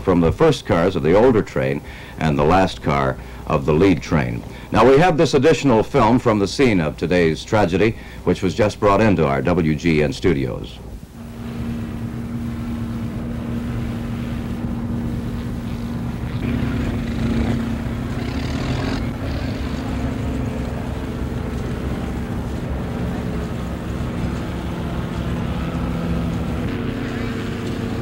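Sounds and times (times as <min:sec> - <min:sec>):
heavy vehicle engines droning: 0:00.0 - 0:28.0.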